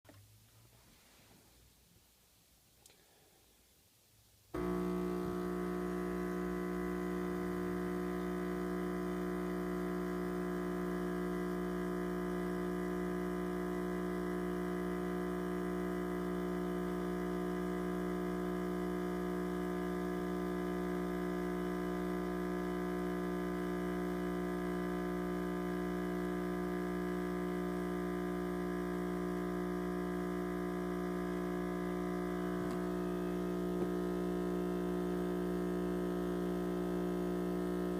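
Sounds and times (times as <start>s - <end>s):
espresso machine buzzing: 4.6s - 37.9s.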